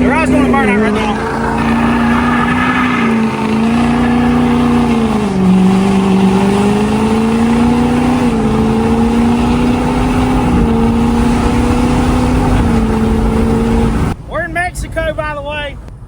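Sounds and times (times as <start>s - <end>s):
car engine running: 0.0s - 14.2s.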